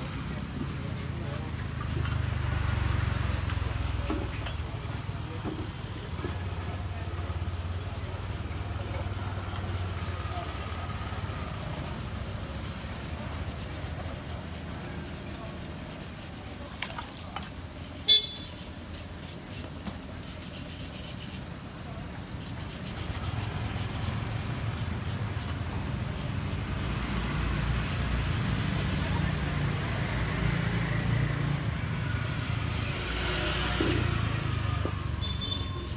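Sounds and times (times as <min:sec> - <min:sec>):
steady traffic rumble: 0:00.0 - 0:35.9.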